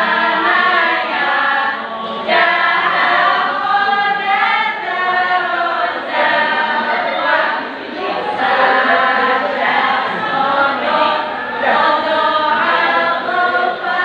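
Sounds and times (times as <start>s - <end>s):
women singing in unison: 0.0s - 14.0s.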